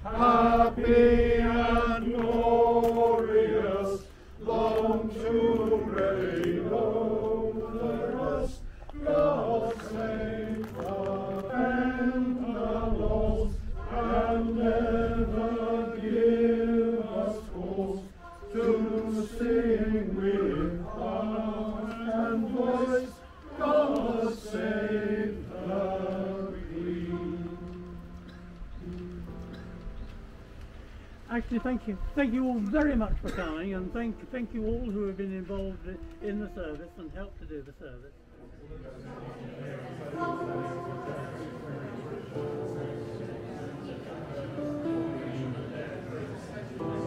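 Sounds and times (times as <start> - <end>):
congregation singing: 0.0 - 32.8, 38.4 - 47.0.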